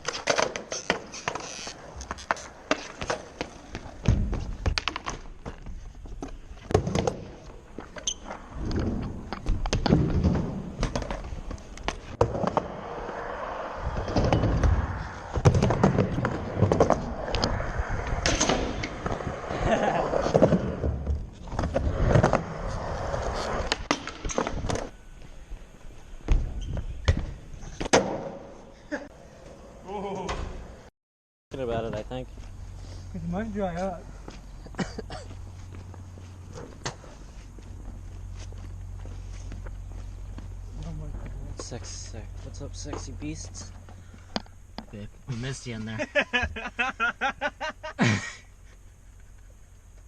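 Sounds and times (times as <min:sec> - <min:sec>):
skateboards rolling: 0:00.0 - 0:30.9, 0:33.3 - 0:50.0.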